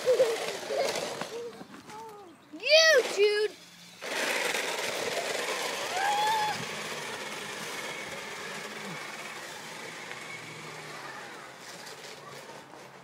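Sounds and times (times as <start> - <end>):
toy electric motor running: 0.0 - 13.0.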